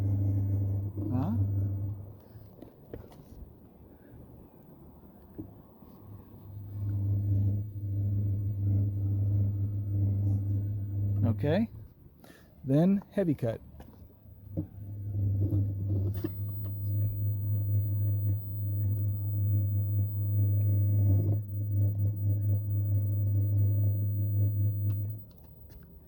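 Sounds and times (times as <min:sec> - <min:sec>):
rotary buffer humming: 0:00.0 - 0:26.0.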